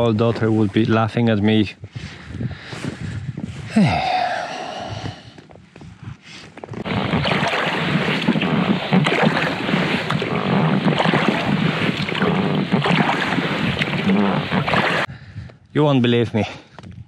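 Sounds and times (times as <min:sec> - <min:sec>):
gusty wind on microphone: 0:00.0 - 0:15.6.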